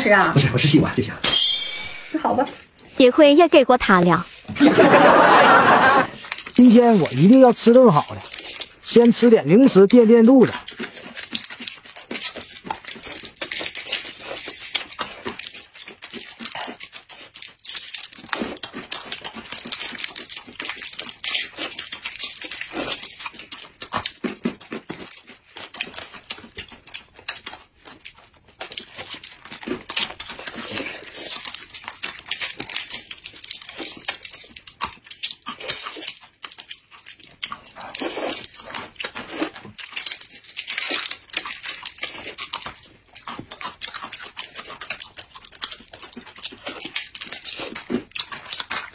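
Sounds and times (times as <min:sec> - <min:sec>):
crunching crisp snacks: 0:05.0 - 0:48.9
plastic snack packets crinkling: 0:06.1 - 0:48.9.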